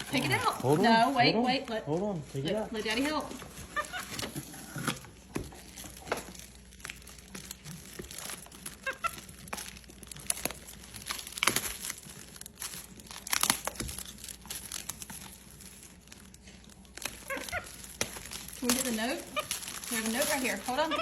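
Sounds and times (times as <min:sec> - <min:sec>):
packaging crinkling and tearing: 0:00.0 - 0:21.0.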